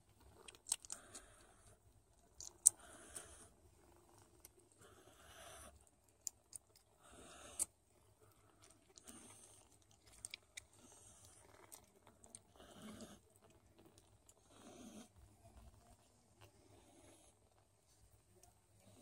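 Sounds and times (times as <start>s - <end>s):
kittens suckling: 0.1s - 19.0s.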